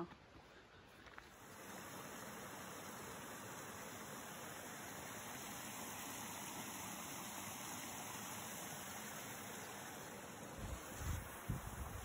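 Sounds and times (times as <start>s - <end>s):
stream running over rocks: 1.2s - 12.0s.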